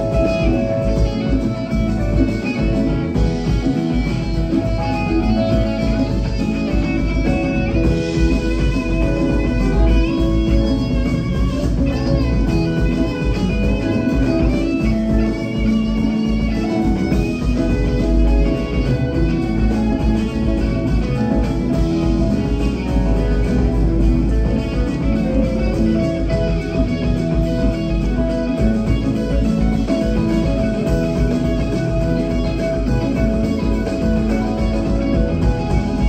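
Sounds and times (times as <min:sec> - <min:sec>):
congas: 0:00.0 - 0:36.0
electric guitar: 0:00.0 - 0:36.0
live rock band playing: 0:00.0 - 0:36.0.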